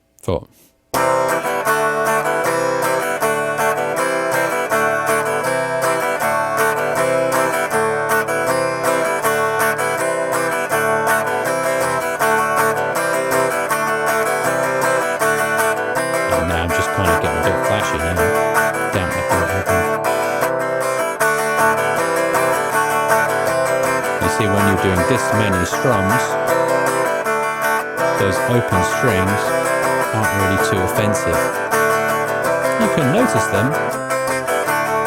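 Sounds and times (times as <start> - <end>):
acoustic guitar strumming: 0.9 - 35.0.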